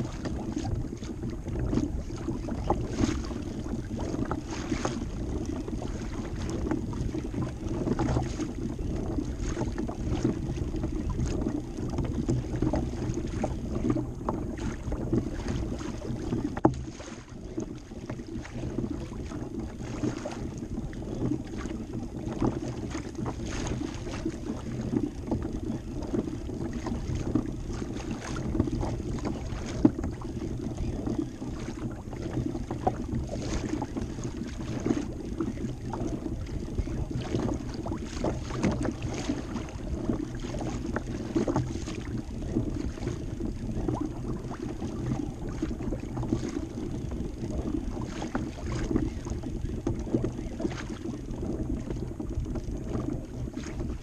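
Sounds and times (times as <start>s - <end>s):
water lapping against kayak hull: 0.0s - 54.0s
wind on microphone: 0.0s - 54.0s.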